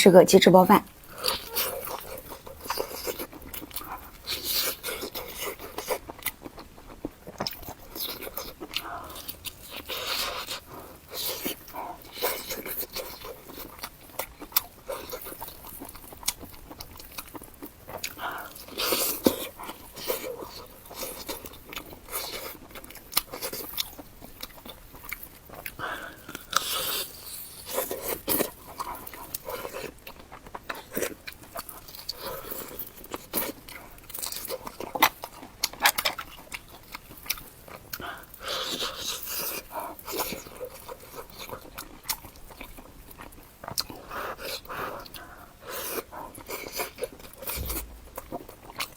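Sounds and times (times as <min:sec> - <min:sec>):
crunching bites and chewing: 0:01.0 - 0:48.9.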